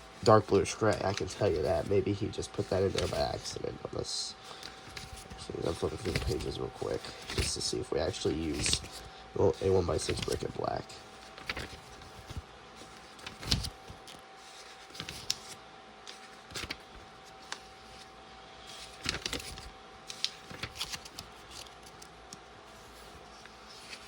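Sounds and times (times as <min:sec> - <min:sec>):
paper pages flipping: 0:00.2 - 0:03.7, 0:04.5 - 0:18.1, 0:18.7 - 0:24.0.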